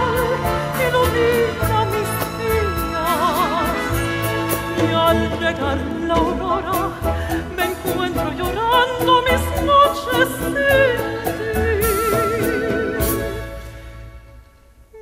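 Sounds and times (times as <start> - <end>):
operatic soprano singing: 0.0 - 13.7
chamber orchestra strings and piano: 0.0 - 14.8.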